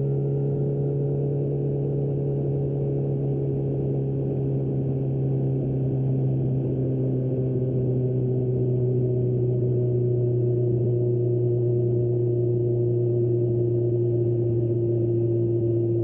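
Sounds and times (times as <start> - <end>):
motorcycle engine droning: 0.0 - 16.0.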